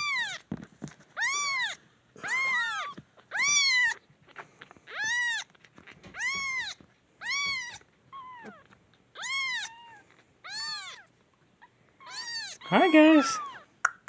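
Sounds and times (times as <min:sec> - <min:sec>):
kittens mewing: 0:01.2 - 0:13.7.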